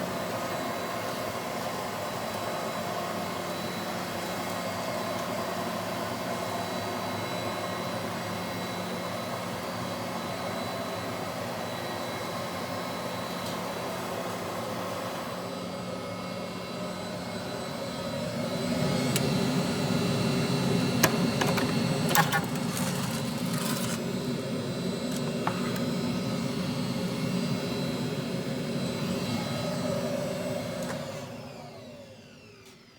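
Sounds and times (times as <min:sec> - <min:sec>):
vacuum motor whirring: 0:00.0 - 0:32.9.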